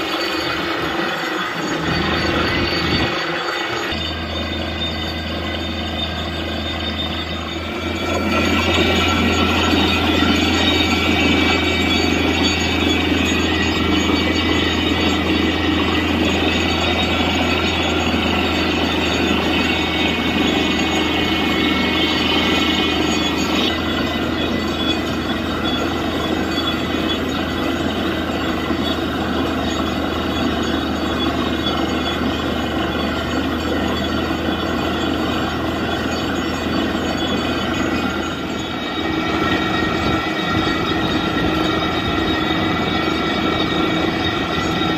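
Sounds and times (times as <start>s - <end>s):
drilling rig engine and compressor droning: 0.0s - 44.9s.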